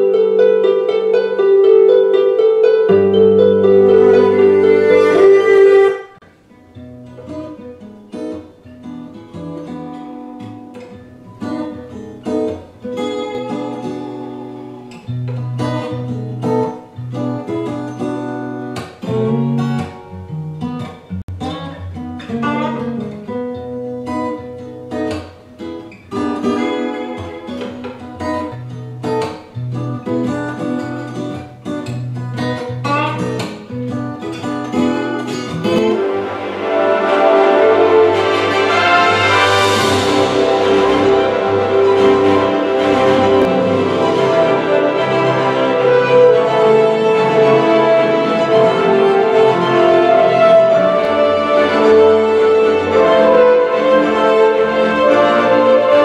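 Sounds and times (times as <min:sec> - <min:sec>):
acoustic guitar picking: 0:00.0 - 0:56.0
plucked string music: 0:00.0 - 0:56.0.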